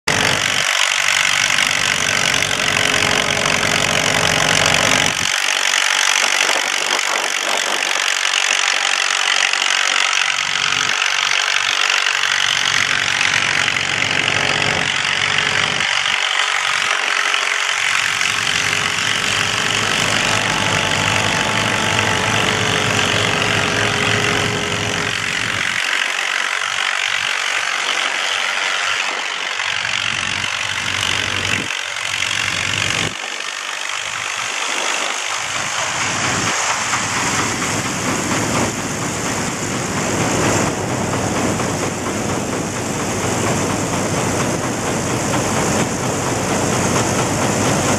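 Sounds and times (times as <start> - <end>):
threshing machine running: 0.0 - 47.9
tractor engine running: 0.0 - 47.9.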